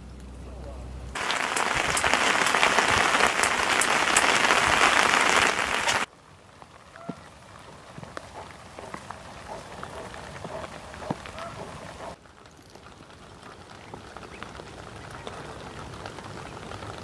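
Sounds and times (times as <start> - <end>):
light rain patter with drips: 0.0 - 17.0
rain drumming on tent fabric: 1.1 - 17.0.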